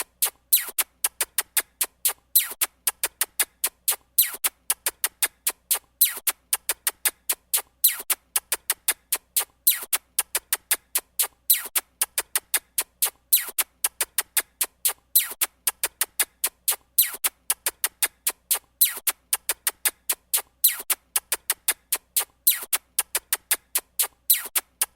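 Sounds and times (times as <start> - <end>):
rhythmic sharp clicks: 0.0 - 24.9.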